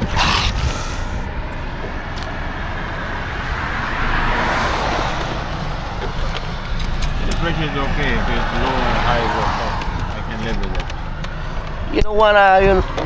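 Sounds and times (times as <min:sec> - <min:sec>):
highway traffic rushing past: 0:00.0 - 0:13.0
vehicle passing loudly: 0:00.0 - 0:13.0.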